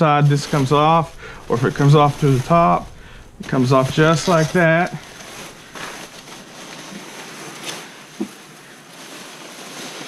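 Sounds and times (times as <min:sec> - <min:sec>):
plastic film peeling: 0:00.0 - 0:10.0.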